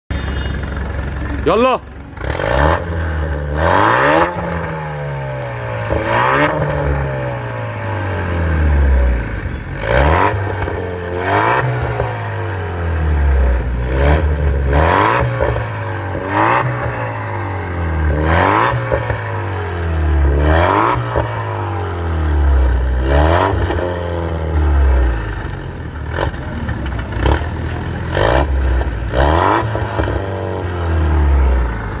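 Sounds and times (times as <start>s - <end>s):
car engine revving: 0.3s - 32.0s.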